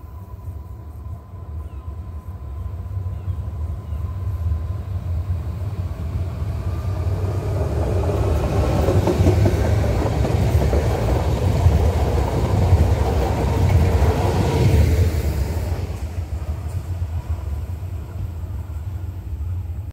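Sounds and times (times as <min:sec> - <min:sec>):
train wheel-and-rail rumble: 0:00.0 - 0:19.9.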